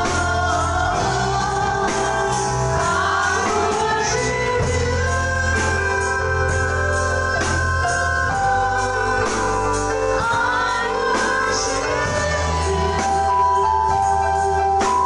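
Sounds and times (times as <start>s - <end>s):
voices singing into microphones: 0.0s - 15.0s
worship band playing gospel song: 0.0s - 15.0s.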